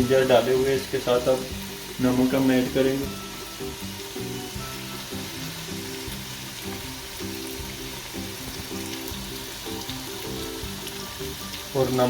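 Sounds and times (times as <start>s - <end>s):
background music with held notes: 0.0s - 12.0s
onions frying in oil: 0.0s - 12.0s.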